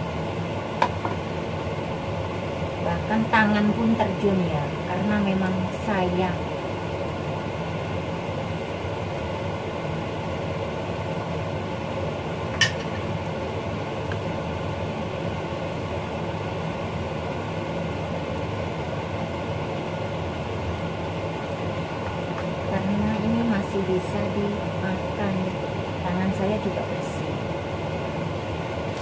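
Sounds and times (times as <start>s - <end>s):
kitchen hum: 0.0s - 29.0s.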